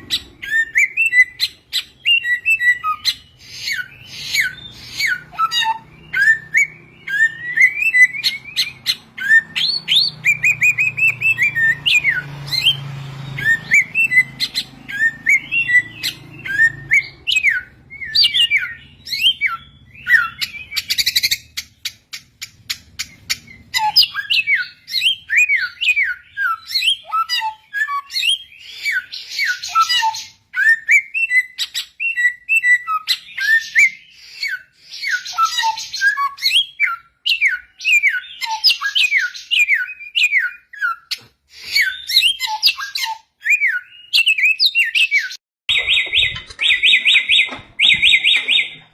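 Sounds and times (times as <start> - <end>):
bird whistled song: 0.0 - 48.9.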